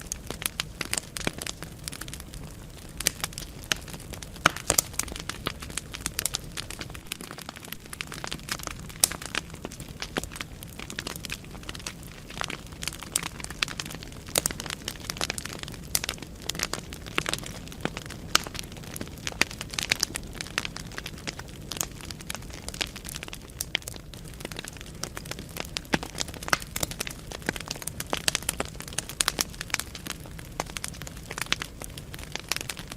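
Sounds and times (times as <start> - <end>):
logs crackling and popping: 0.0 - 32.9
low rumble of flames: 0.0 - 32.9.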